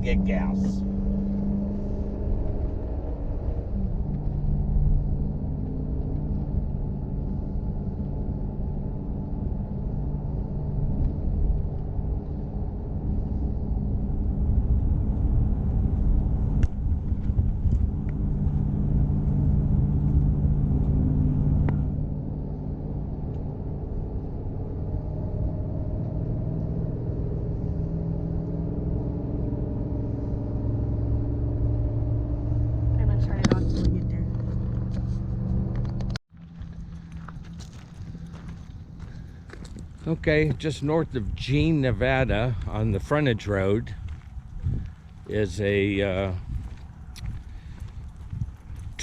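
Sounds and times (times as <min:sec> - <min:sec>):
engine hum and road rumble: 0:00.0 - 0:49.0.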